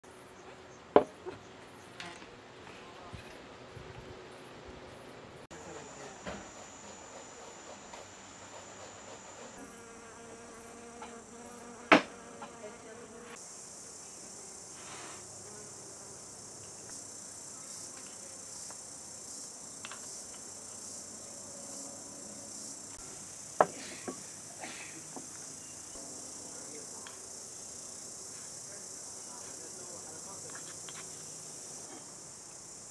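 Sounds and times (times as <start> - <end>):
insects chirring: 3.7 - 32.9.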